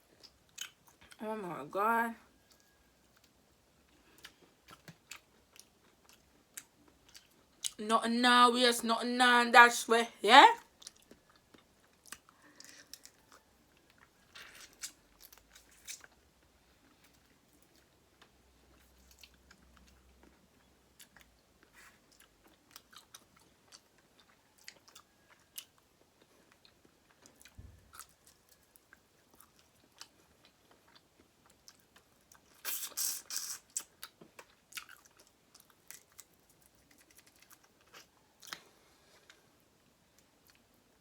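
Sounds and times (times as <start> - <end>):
soft chewing with mouth clicks: 0.0 - 1.2, 2.2 - 7.8, 10.6 - 41.0.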